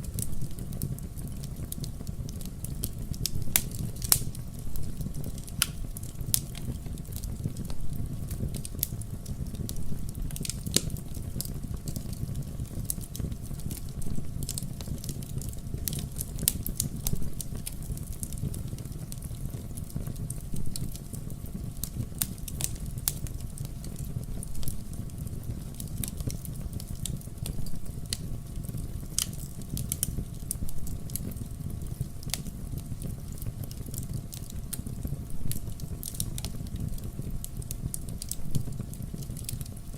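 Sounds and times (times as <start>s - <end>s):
burning logs crackling and popping: 0.0s - 39.9s
fire rumbling: 0.0s - 39.9s.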